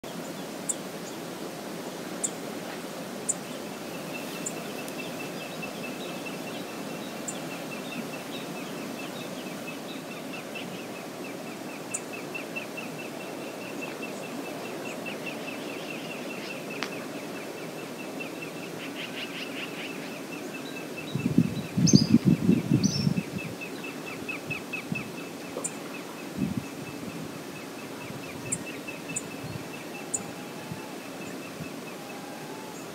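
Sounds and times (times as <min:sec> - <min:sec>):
steady rushing outdoor ambience: 0:00.0 - 0:32.9.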